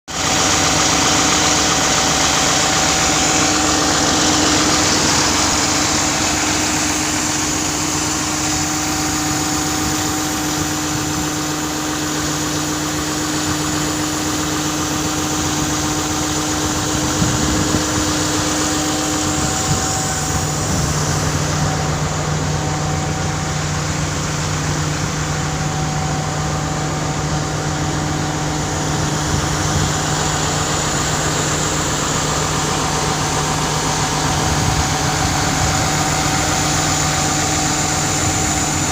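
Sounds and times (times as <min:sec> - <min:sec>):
drilling rig machinery humming: 0:00.1 - 0:38.9.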